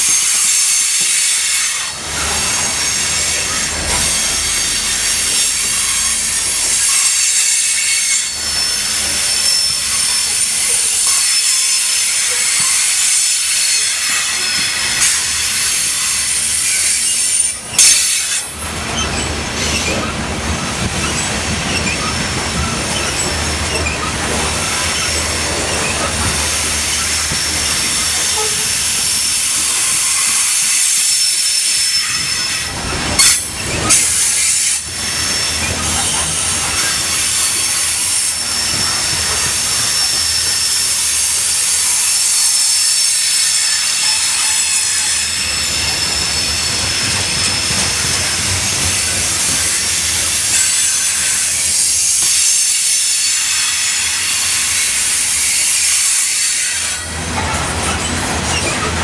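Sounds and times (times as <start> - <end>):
train wheels hissing and squealing on rails: 0.0 - 59.0.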